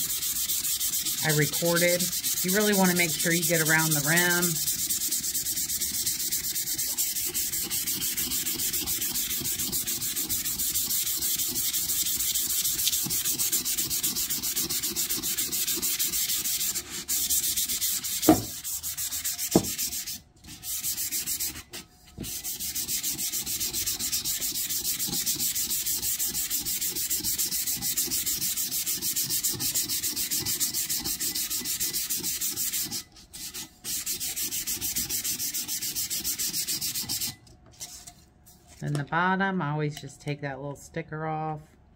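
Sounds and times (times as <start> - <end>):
sandpaper scratching steel: 0.0 - 38.1.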